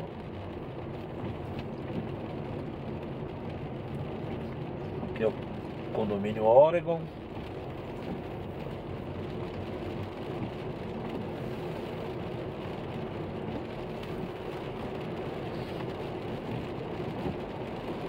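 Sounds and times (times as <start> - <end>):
car driving on wet road: 0.0 - 18.0.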